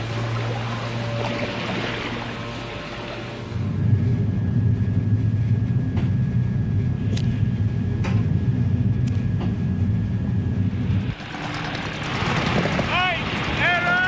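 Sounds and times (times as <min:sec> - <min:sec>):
faint steady whine: 0:00.0 - 0:14.0
low engine rumble: 0:00.0 - 0:14.0.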